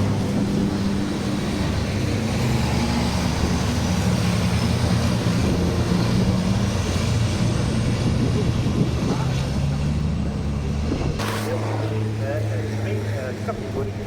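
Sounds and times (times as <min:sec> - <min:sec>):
heavy truck engines droning: 0:00.0 - 0:14.0.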